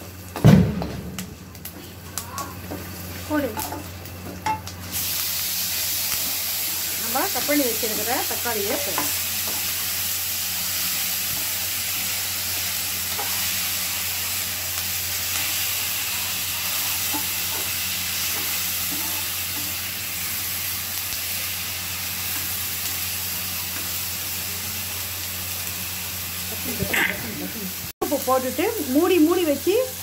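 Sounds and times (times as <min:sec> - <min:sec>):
food sizzling in hot oil: 0:02.2 - 0:30.0.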